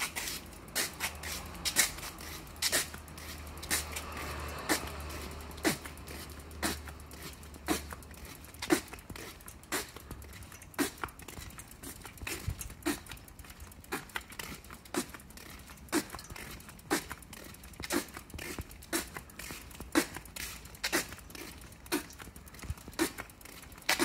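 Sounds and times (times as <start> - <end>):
footsteps on asphalt: 0.0 - 24.0.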